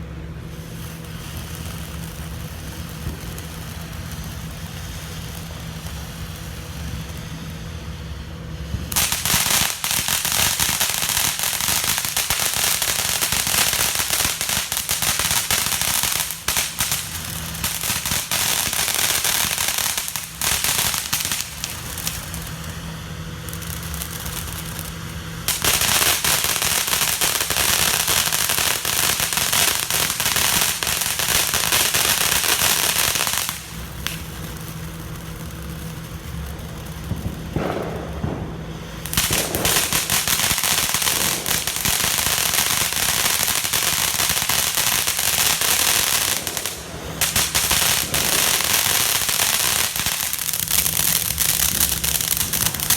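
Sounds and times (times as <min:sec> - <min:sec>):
firecrackers crackling: 0:00.0 - 0:52.9.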